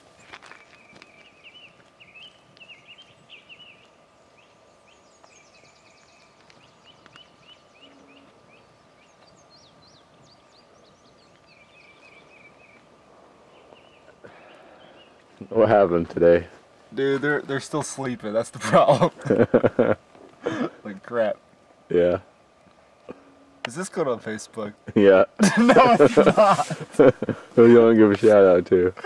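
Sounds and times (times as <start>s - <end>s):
faint high hum: 0.0s - 29.0s
songbirds chirping and trilling: 0.0s - 29.0s.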